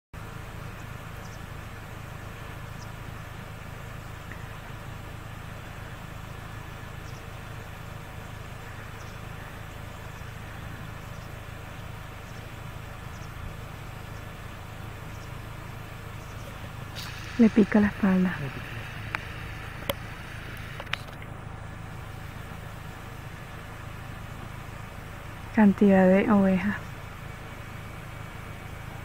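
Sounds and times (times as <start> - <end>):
vehicle engine idling: 0.1 - 29.0
background hiss: 0.2 - 29.0.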